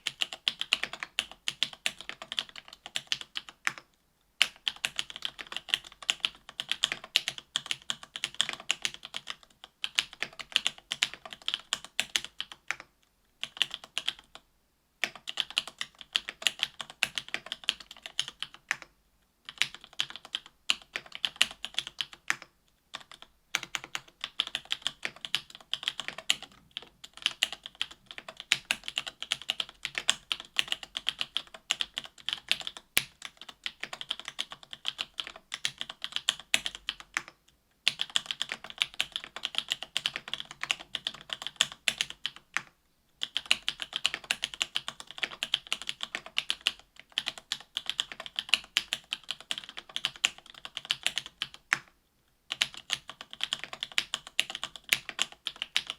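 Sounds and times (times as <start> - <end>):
typing on mechanical keyboard: 0.0 - 14.4, 15.0 - 18.9, 19.5 - 51.9, 52.5 - 55.9.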